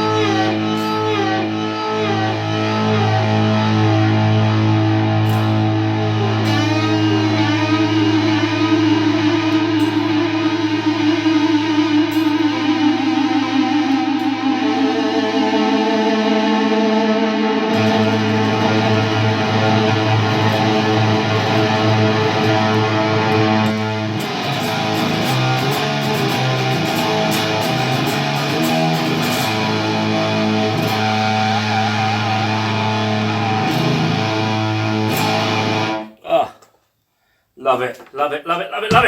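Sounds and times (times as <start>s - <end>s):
fuzz-distorted electric guitar: 0.0s - 36.1s.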